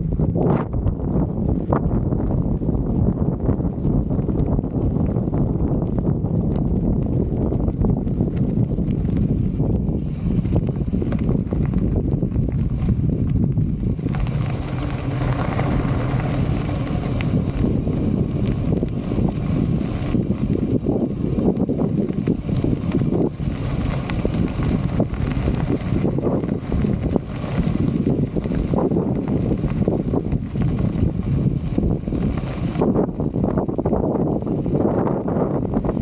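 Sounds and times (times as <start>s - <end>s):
wind buffeting microphone: 0.0s - 36.0s
tyres rolling on gravel: 1.5s - 36.0s.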